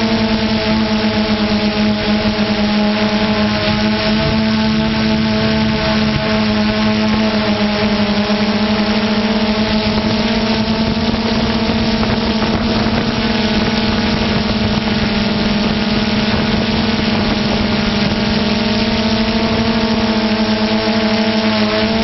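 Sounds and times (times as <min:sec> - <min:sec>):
drone propellers humming: 0:00.0 - 0:22.0
rotor wash and wind noise: 0:00.0 - 0:22.0.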